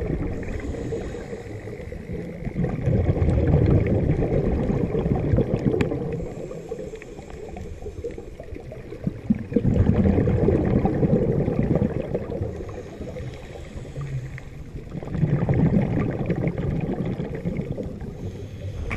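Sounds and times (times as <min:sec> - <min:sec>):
underwater bubbles gurgling: 0:00.0 - 0:18.9.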